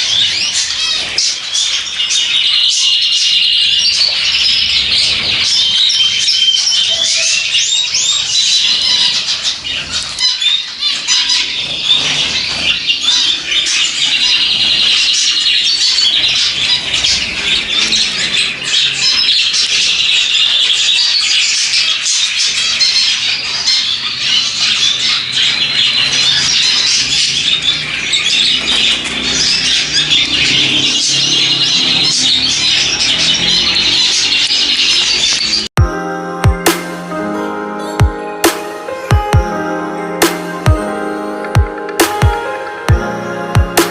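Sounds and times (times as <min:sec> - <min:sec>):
small birds chirping chorus: 0:00.0 - 0:36.7.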